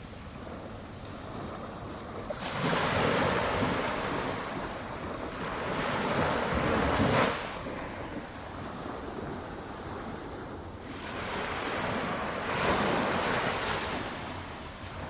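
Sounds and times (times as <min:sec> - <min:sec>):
small waves washing up beach: 0:00.0 - 0:15.0.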